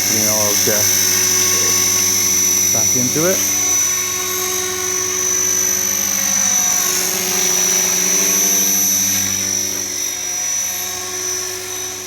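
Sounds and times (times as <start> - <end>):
electric motor whine: 0.0 - 12.0
model helicopter rotor whir: 0.0 - 12.0.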